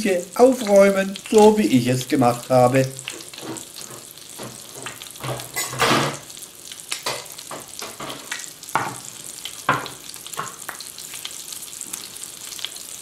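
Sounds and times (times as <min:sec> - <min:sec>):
fish frying in butter: 0:00.0 - 0:13.0.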